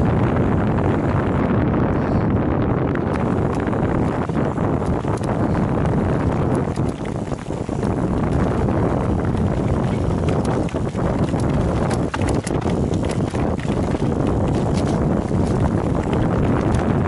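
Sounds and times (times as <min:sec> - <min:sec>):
bike tyre noise: 0:00.0 - 0:17.0
wind rumble on microphone: 0:00.0 - 0:17.0
bike knocks and rattles: 0:02.9 - 0:17.0.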